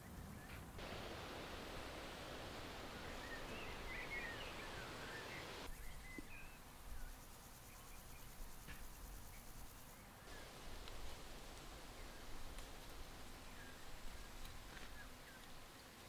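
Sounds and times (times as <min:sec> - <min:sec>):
small birds chirping: 0:00.4 - 0:08.4, 0:09.3 - 0:15.6
background hiss: 0:00.6 - 0:16.0.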